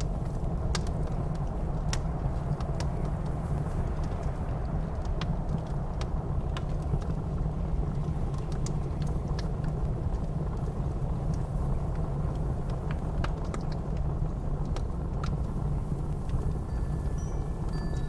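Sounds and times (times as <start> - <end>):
low rumble of blizzard wind: 0.0 - 18.0
wood fire crackling and popping: 0.0 - 18.0.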